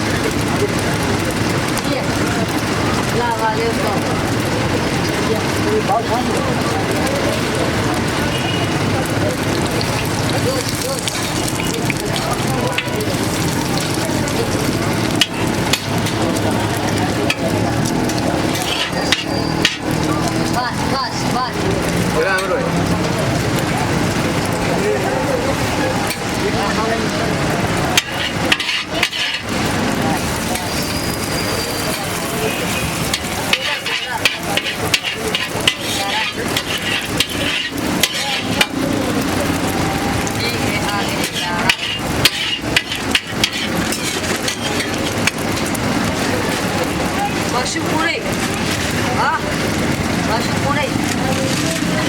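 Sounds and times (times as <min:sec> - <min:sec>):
food sizzling on a griddle: 0:00.0 - 0:52.0.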